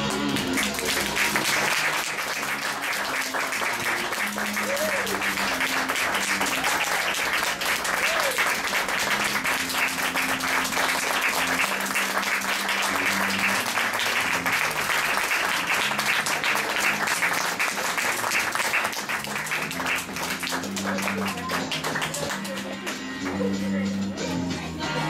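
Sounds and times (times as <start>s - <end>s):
audience applauding: 0.0s - 23.2s.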